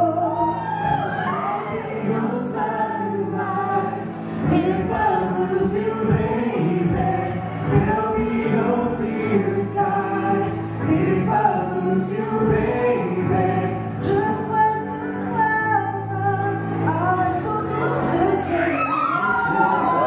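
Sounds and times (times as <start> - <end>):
a cappella group singing in harmony: 0.0 - 20.0.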